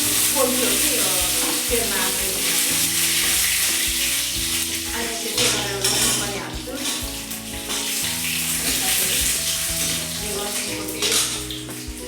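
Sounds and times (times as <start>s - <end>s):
background music: 0.0s - 12.0s
frying in hot oil sizzling: 0.0s - 12.0s.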